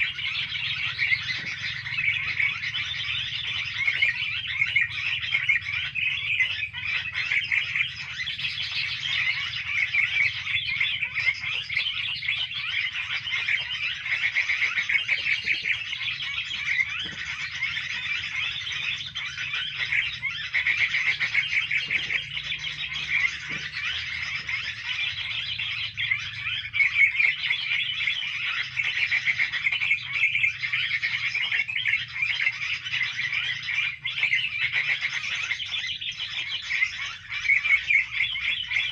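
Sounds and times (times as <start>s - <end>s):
songbirds chattering: 0.0s - 38.9s.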